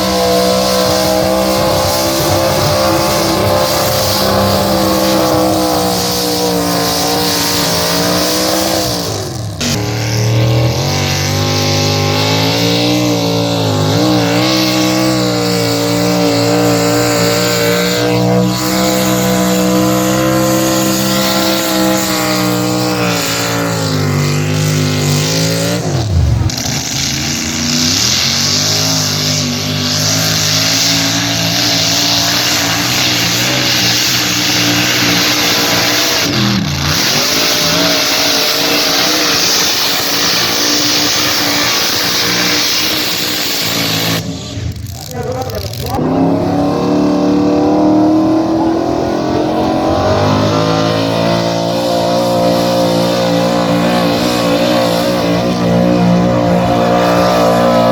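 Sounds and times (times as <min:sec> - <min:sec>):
truck engine revving under load: 0:00.0 - 0:57.9.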